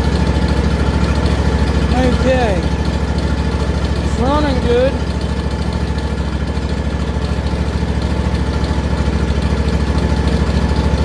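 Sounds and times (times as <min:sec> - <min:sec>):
lawn tractor engine idling: 0:00.0 - 0:11.0.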